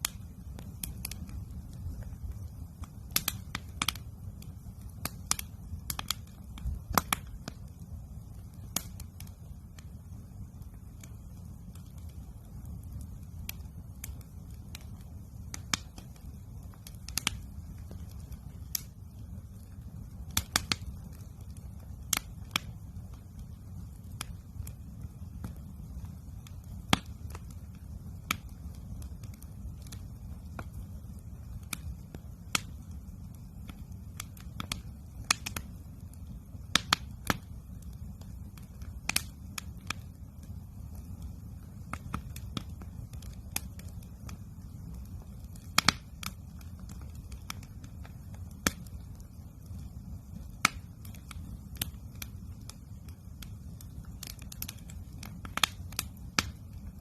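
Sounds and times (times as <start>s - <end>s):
campfire popping and snapping: 0.0s - 57.0s
low fire rumble: 0.0s - 57.0s.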